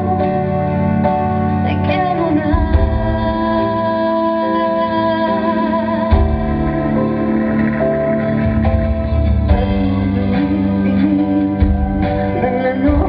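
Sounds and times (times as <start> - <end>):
woman singing into a microphone: 0.0 - 7.6, 9.5 - 13.0
live pop music accompaniment: 0.0 - 13.0.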